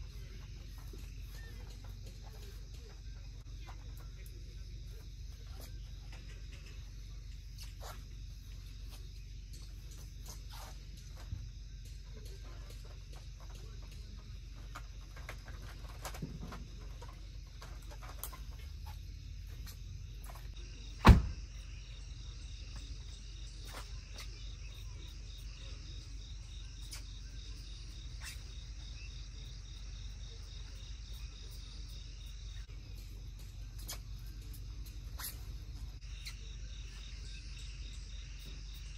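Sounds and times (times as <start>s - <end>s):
crickets and insects chirring: 0.0s - 38.9s.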